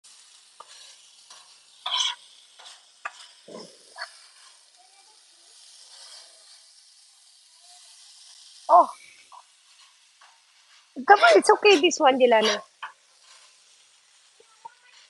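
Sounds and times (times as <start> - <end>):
food sizzling on a griddle: 0.0 - 15.0
metal spatula scraping griddle: 0.1 - 15.0.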